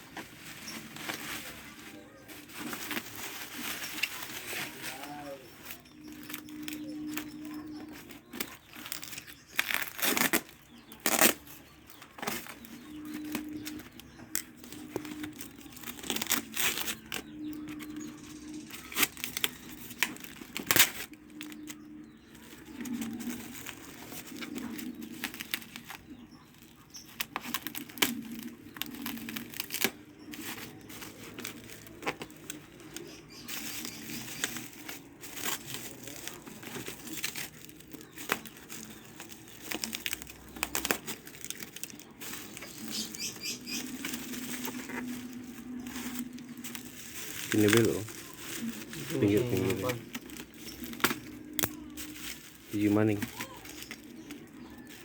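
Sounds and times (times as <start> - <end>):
packaging tearing and crinkling: 0.0 - 55.0.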